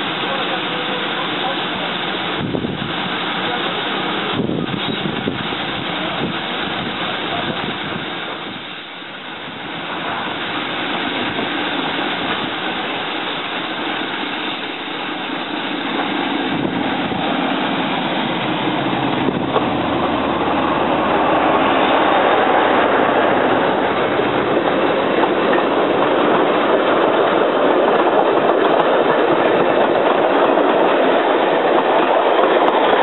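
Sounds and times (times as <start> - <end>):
diesel locomotive engine drone: 0.0 - 33.0
train running noise: 0.0 - 33.0.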